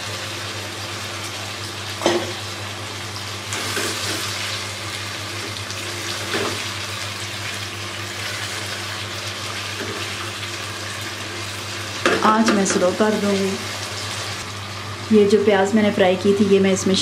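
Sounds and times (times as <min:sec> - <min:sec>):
curry simmering and sizzling: 0:00.0 - 0:14.5.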